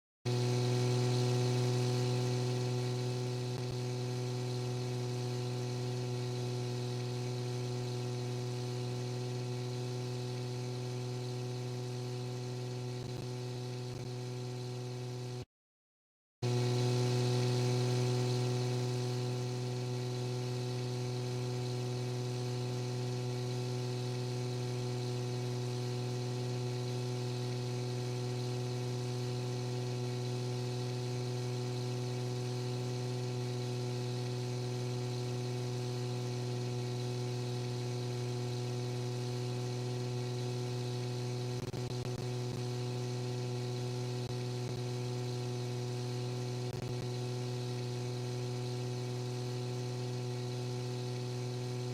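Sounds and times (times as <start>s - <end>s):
steady low hum: 0.3s - 15.4s, 16.5s - 51.9s.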